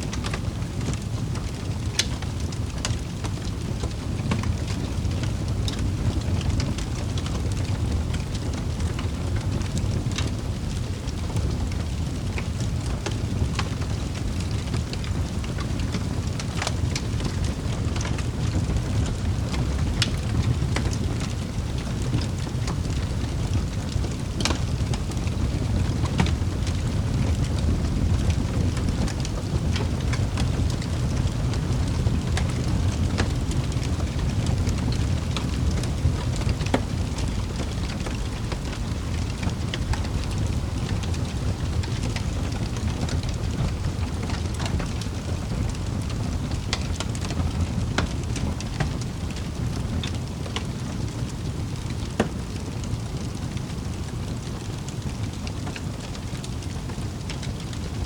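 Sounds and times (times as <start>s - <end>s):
fire flames rushing: 0.0s - 58.0s
logs crackling and popping: 0.0s - 58.0s.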